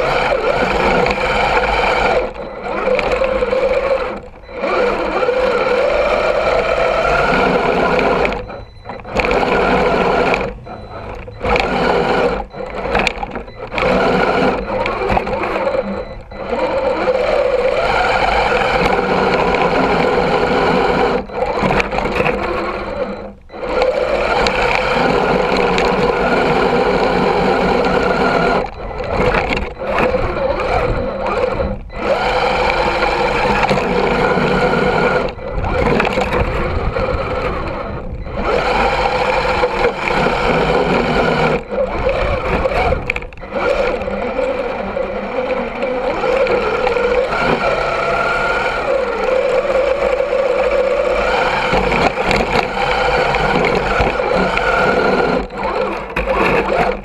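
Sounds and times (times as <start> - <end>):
rc truck motor whining: 0.0 - 57.0.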